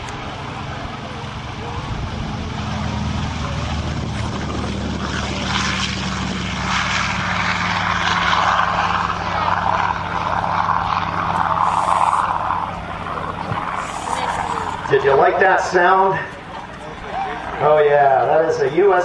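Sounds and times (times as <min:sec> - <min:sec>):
aircraft radial engine and propeller: 0:00.0 - 0:19.0.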